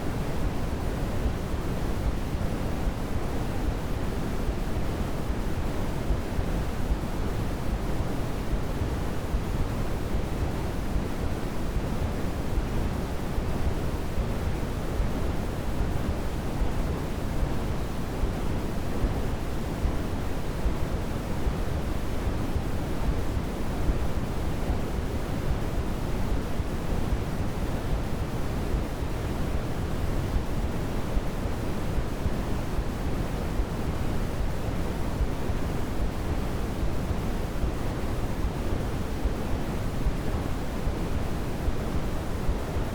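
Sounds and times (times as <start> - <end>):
steady white noise: 0.0 - 42.9.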